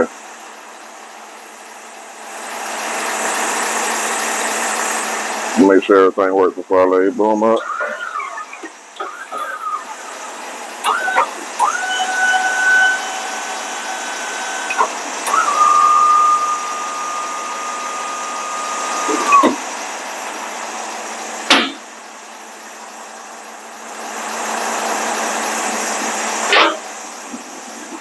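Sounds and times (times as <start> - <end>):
crane electric motor whining: 0.0 - 5.9, 7.1 - 28.0.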